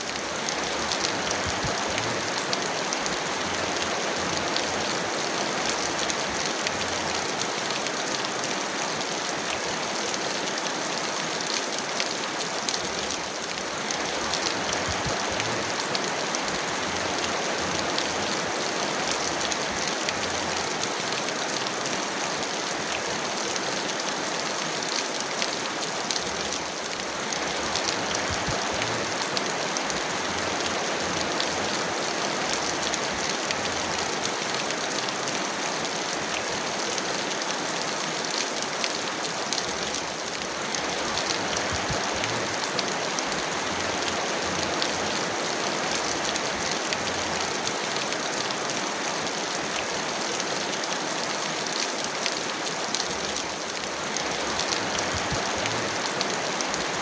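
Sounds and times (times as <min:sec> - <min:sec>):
heavy rain on hard surface: 0:00.0 - 0:57.0.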